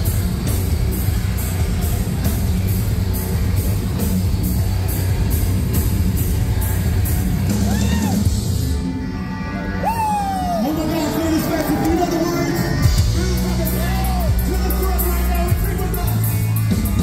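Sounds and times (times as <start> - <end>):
metalcore band playing: 0.0 - 17.0.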